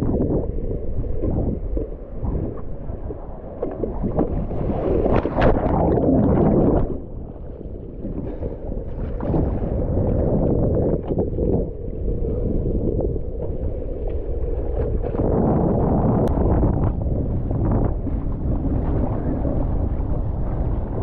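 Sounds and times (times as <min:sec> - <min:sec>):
water splashing and sloshing: 0:00.0 - 0:21.0
wind buffeting microphone: 0:00.0 - 0:21.0.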